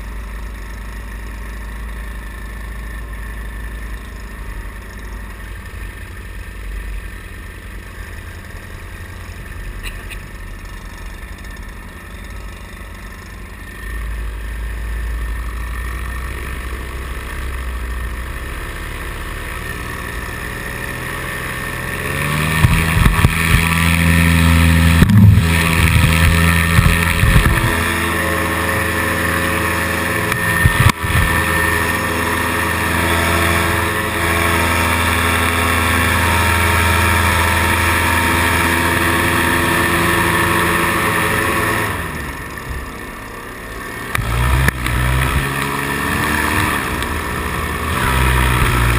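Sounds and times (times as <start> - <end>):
paramotor engine: 0.0 - 48.9.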